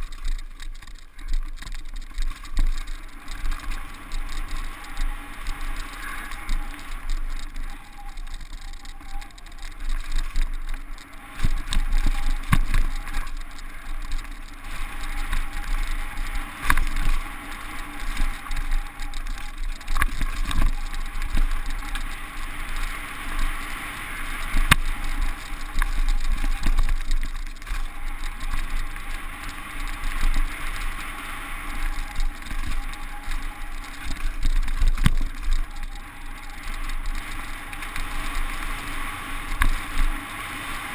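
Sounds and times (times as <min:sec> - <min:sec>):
bike rattling: 0:00.0 - 0:40.9
wind and tyre noise: 0:00.0 - 0:40.9.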